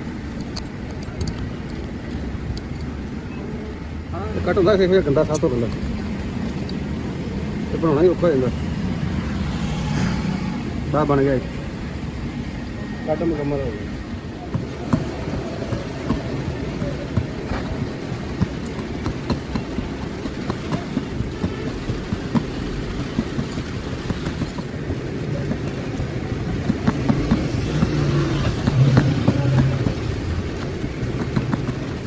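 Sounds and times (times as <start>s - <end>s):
engine rumbling with ticks: 0.0s - 32.0s.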